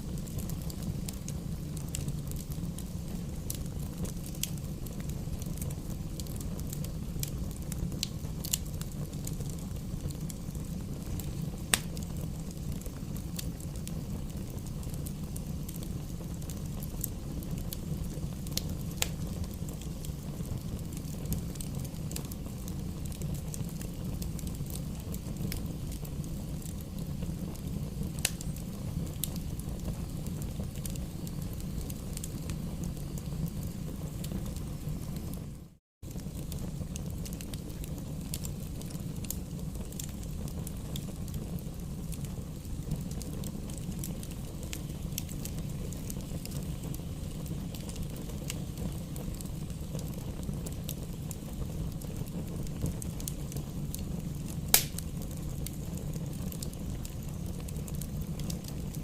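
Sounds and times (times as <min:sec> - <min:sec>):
campfire crackling and popping: 0:00.0 - 0:59.0
low rush of fire: 0:00.0 - 0:59.0.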